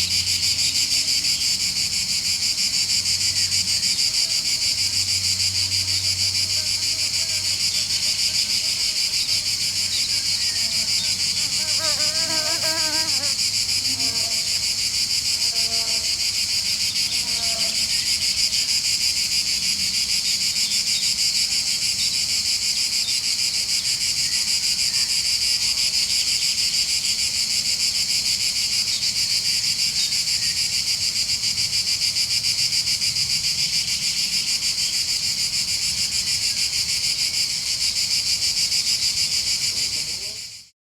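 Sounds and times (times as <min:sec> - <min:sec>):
insects buzzing: 0:00.0 - 0:40.7.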